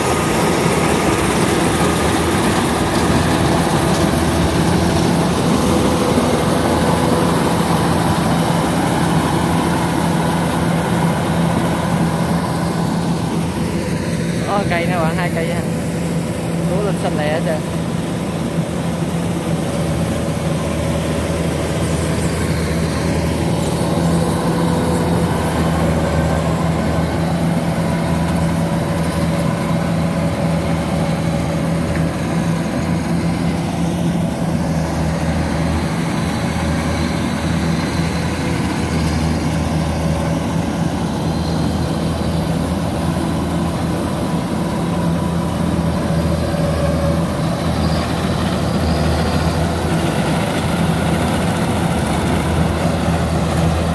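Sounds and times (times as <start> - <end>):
combine harvester engine droning: 0.0 - 53.9.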